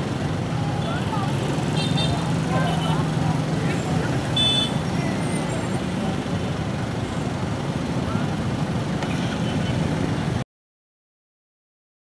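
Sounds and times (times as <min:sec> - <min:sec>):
bus diesel engine running: 0:00.0 - 0:10.4.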